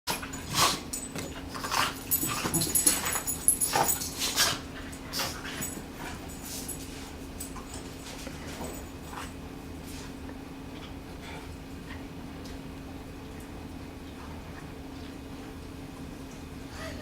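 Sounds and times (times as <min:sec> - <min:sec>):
dogs playing: 0:00.1 - 0:16.6.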